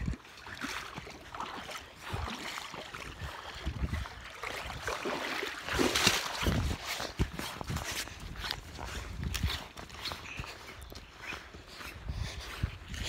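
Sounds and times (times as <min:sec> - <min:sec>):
legs sloshing through water: 0:00.0 - 0:13.0.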